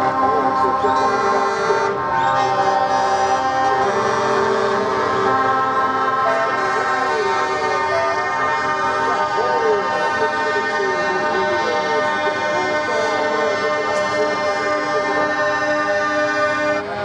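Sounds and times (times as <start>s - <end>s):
truck air horns blasting: 0.0s - 17.0s.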